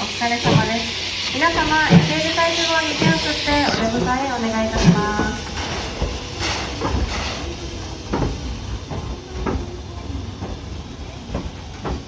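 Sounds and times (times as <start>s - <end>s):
locomotive low rumble: 0.0s - 12.0s
steam hiss: 0.0s - 12.0s.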